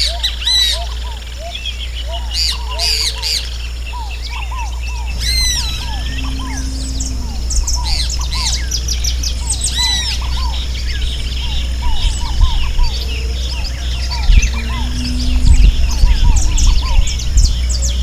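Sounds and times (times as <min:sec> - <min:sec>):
birds calling and singing: 0:00.0 - 0:18.0
low hum: 0:03.5 - 0:18.0.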